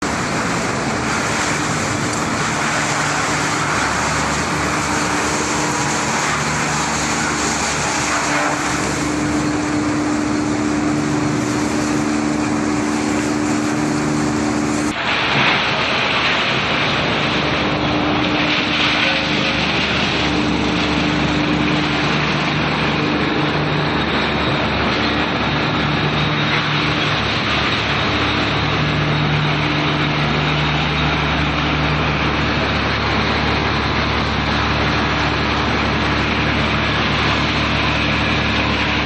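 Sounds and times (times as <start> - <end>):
motor hum: 0.0 - 39.0
wood grinder machinery running: 0.0 - 39.0.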